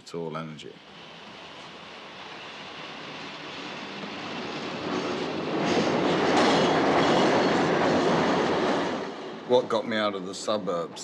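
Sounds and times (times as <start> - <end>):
train running past: 0.0 - 11.0.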